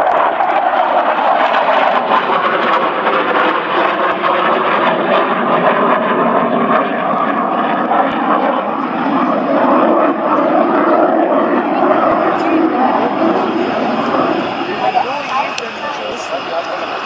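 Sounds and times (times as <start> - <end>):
fighter jet engine roar: 0.0 - 17.0.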